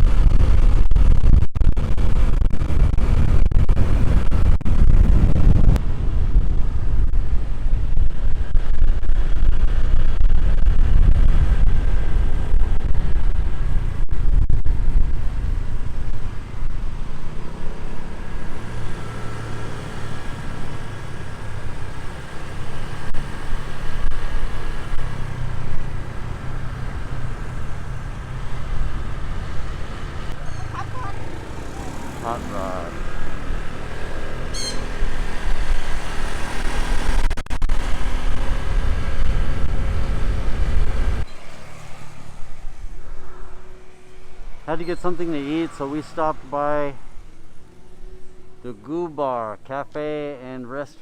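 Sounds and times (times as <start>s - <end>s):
wind rumble on microphone: 0.0s - 32.2s, 32.9s - 48.7s.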